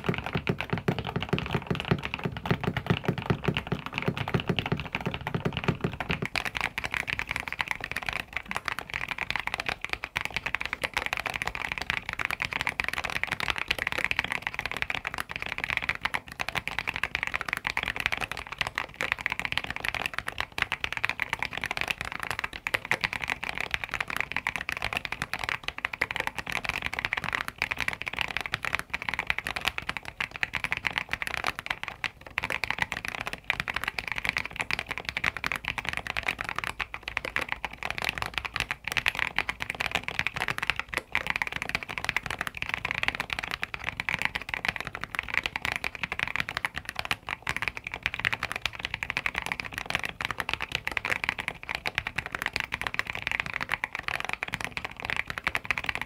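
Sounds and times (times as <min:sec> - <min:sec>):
typing on mechanical keyboard: 0:00.0 - 0:56.0.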